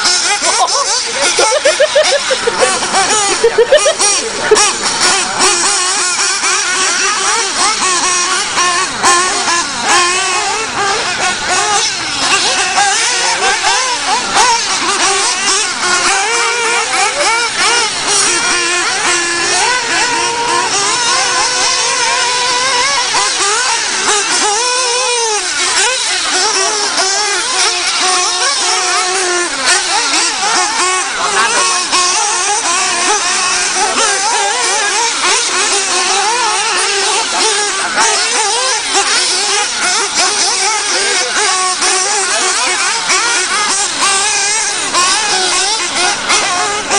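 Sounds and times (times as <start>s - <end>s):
small high-revving rc truck motors: 0.0s - 46.9s.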